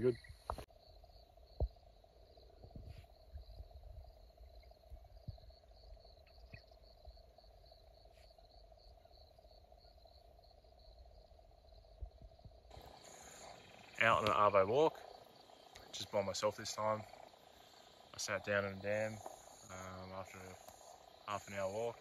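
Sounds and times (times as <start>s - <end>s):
high pulsing insect chirp: 0.0s - 22.0s
insects droning: 0.0s - 22.0s.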